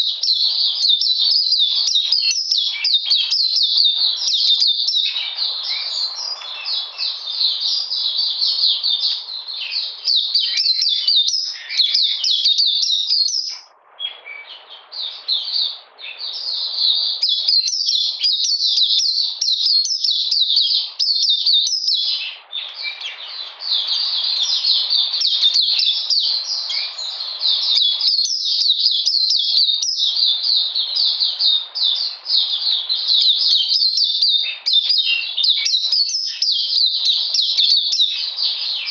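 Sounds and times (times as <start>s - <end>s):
bird twittering warble: 0.0s - 38.9s.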